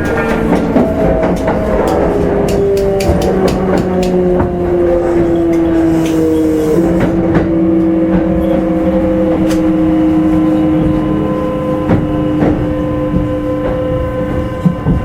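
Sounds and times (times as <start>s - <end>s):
electric train motor whine: 0.0s - 15.0s.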